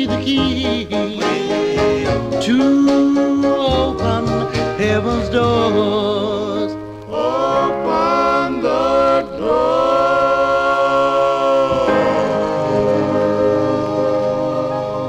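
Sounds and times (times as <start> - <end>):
vocal group singing harmonies: 0.0 - 15.0.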